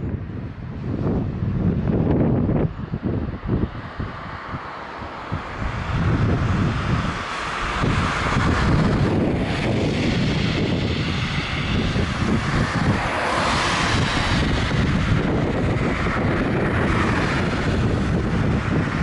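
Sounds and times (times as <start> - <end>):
cars passing: 0.0 - 19.0
road traffic noise: 0.0 - 19.0
wind rumbling on microphone: 0.0 - 19.0.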